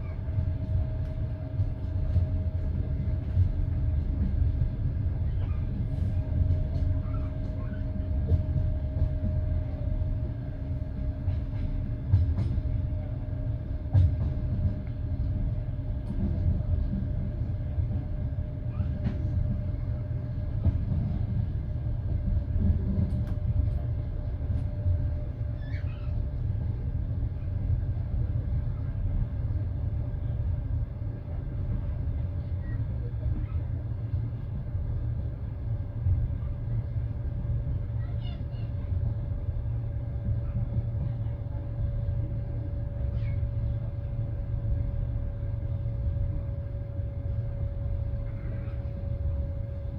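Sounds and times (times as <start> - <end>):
constant hum: 0.0 - 49.9
train wheels rumbling on rails: 0.0 - 49.9.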